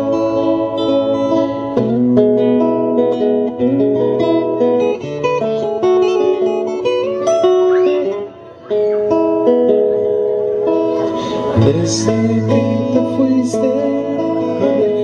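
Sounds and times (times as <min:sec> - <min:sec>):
guitar slow melody: 0:00.0 - 0:15.0.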